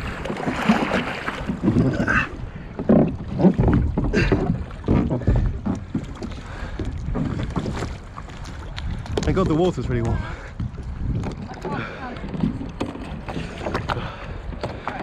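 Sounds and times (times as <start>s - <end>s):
water splashing around kayak: 0.0s - 15.0s
wind on microphone: 0.0s - 15.0s.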